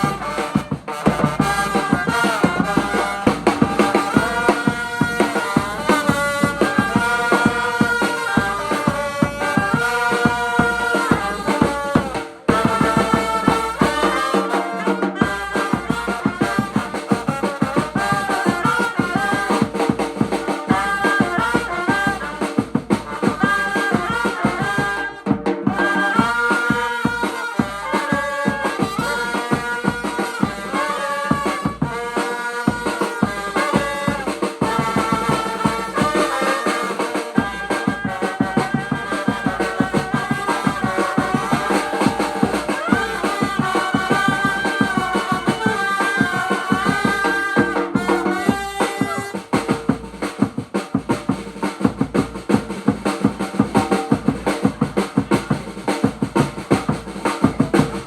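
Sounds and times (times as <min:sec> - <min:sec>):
brass melody: 0:00.0 - 0:50.6, 0:51.5 - 0:58.0
drum and rattle beat: 0:00.0 - 0:58.0.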